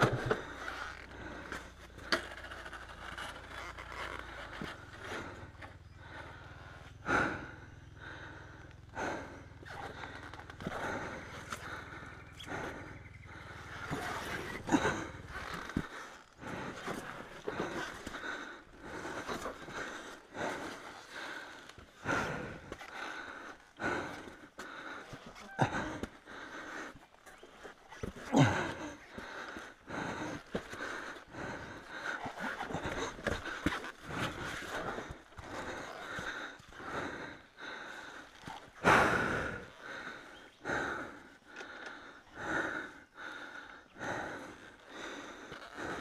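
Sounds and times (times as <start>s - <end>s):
person breathing heavily: 0.2s - 2.4s, 4.0s - 46.0s.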